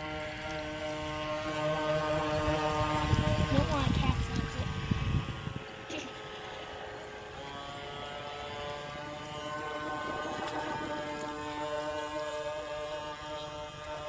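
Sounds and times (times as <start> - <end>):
model boat motor whine: 0.0 - 14.0.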